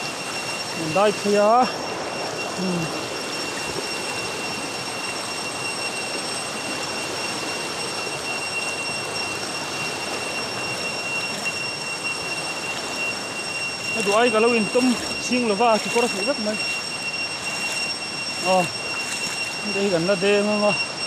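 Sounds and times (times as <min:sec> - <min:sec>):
shallow stream rushing over rocks: 0:00.0 - 0:20.3
thin high whine: 0:00.0 - 0:21.0.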